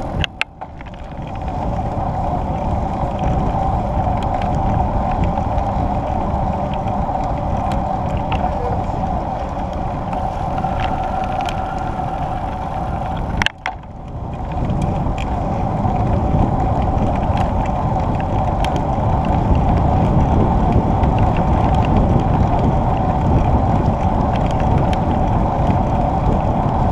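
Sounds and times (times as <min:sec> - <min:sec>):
bicycle tyre rumble: 0:00.0 - 0:26.9
wind on microphone: 0:00.0 - 0:26.9.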